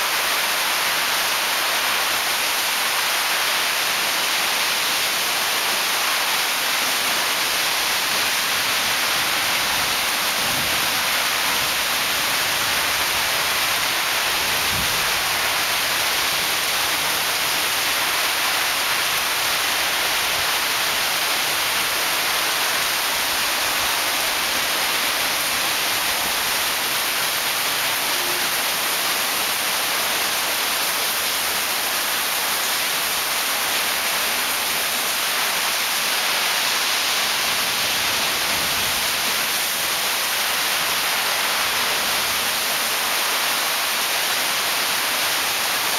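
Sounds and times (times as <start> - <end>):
heavy rain on foliage and paving: 0.0 - 45.9.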